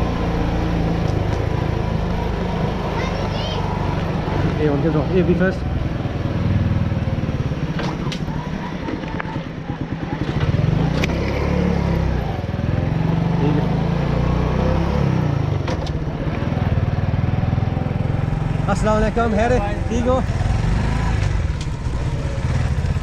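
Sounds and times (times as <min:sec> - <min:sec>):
motorbike engine running: 0:00.0 - 0:14.0, 0:15.3 - 0:23.0.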